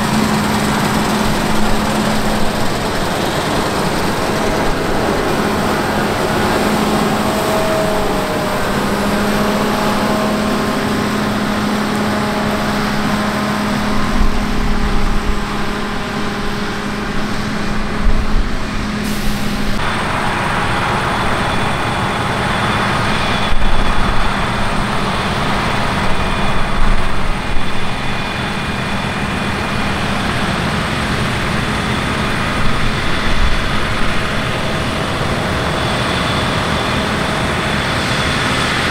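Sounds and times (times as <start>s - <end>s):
farm machinery engines running: 0.0s - 38.9s.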